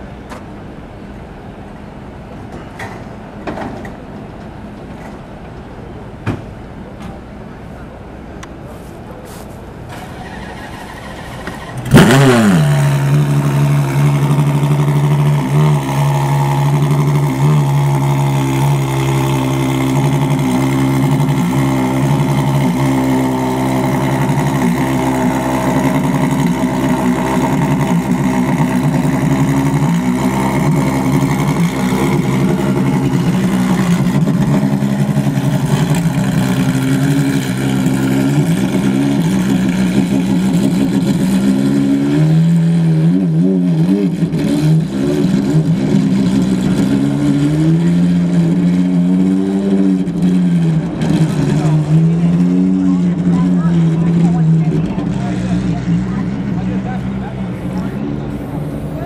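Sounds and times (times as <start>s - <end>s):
car engine starting and idling: 0.0s - 59.0s
engine throttle blips: 0.0s - 59.0s.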